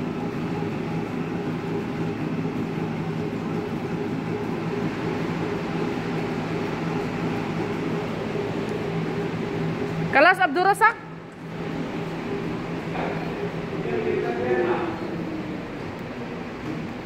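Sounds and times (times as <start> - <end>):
treadmill belt rumbling: 0.0 - 17.0.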